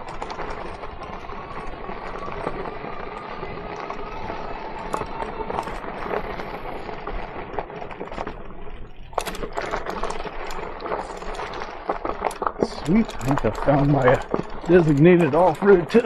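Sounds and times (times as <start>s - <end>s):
bike rattling and knocking: 0.0s - 16.0s
bike tyres on dirt trail: 0.0s - 16.0s.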